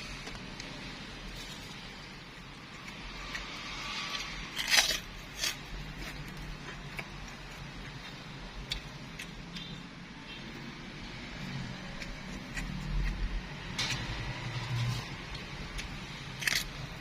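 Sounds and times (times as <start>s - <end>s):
crackly crunch of eating: 0.0s - 10.1s, 11.3s - 17.0s.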